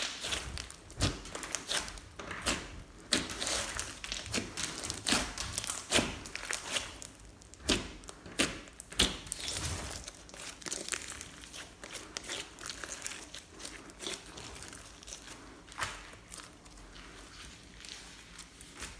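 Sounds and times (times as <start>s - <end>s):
slime popping and crackling: 0.0s - 16.7s.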